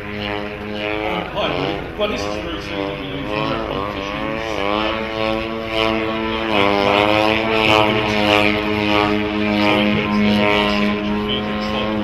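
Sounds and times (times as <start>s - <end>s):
model plane engine: 0.0s - 12.0s
propeller hiss: 0.0s - 12.0s.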